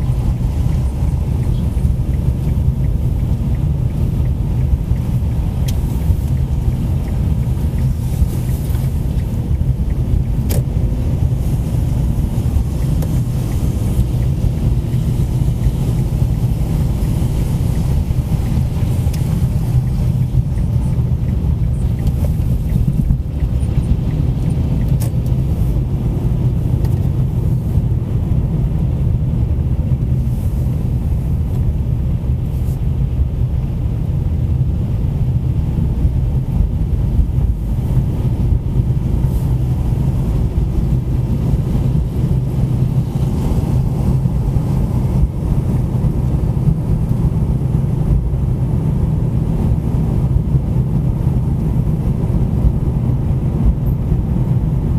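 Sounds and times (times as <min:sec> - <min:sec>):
car tyres and engine rumble: 0:00.0 - 0:54.9.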